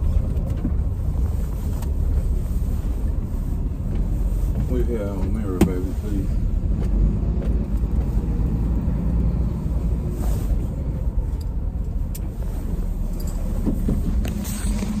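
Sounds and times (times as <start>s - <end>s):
engine and road noise in cabin: 0.0s - 15.0s.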